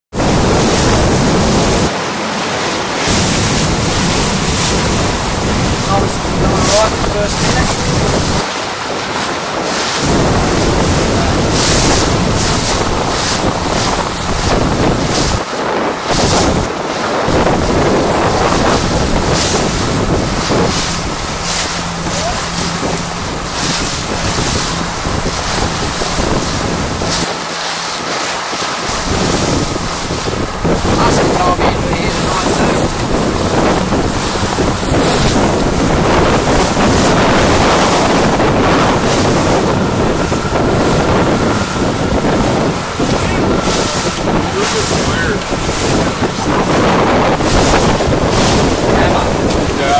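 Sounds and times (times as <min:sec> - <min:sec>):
choppy sea water slapping: 0:00.1 - 0:49.9
wind buffeting microphone: 0:00.1 - 0:49.9.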